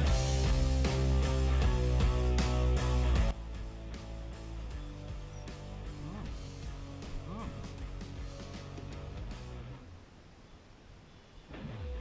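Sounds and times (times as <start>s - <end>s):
background music with held notes: 0.0s - 9.8s.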